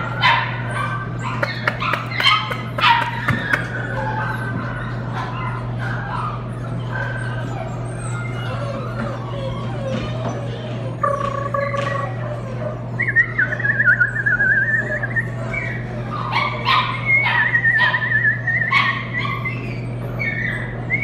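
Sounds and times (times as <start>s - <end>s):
puppy whining: 0.0s - 21.0s
puppy yipping: 0.0s - 21.0s.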